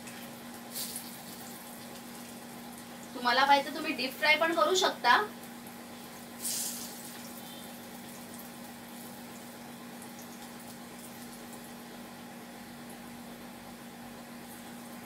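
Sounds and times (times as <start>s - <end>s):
patties sizzling in hot oil: 0.0s - 15.0s.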